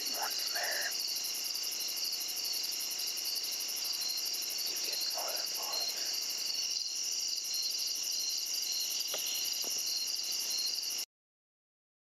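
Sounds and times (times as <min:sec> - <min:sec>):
night insects chirping: 0:00.0 - 0:11.1.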